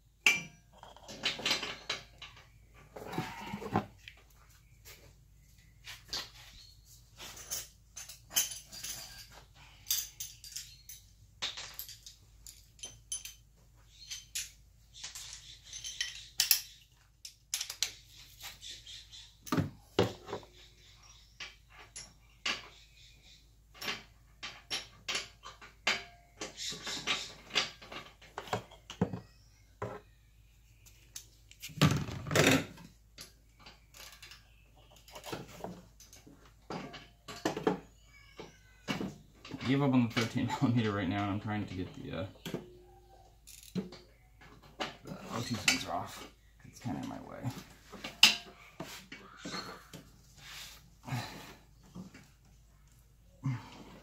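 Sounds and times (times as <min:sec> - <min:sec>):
metal tools clinking and knocking: 0:00.2 - 0:03.8, 0:06.0 - 0:18.6, 0:19.4 - 0:30.1, 0:30.8 - 0:54.0.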